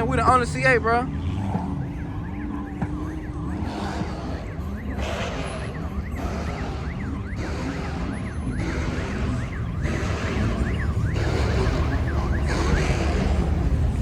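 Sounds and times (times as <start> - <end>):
cars idling: 0.0 - 14.0
siren yelping: 0.0 - 14.0.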